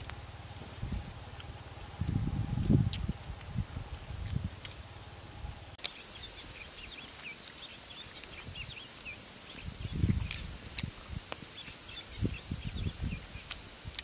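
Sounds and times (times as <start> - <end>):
small birds twittering: 0.0 - 14.0.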